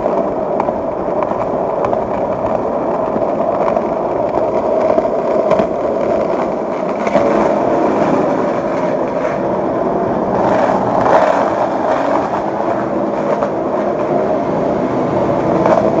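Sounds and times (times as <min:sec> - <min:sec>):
skateboard clacks: 0:00.0 - 0:16.0
skateboard wheels rolling on concrete: 0:00.0 - 0:16.0.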